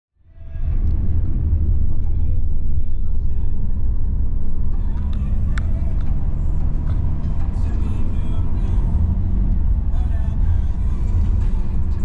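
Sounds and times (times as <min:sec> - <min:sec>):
car cabin road rumble: 0:00.2 - 0:12.0.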